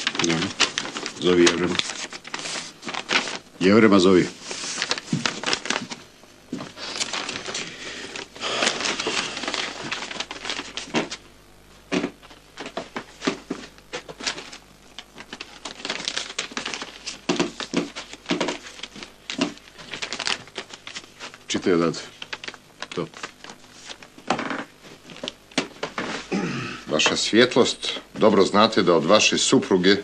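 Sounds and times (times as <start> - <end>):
paper rustling: 0.0 - 26.3.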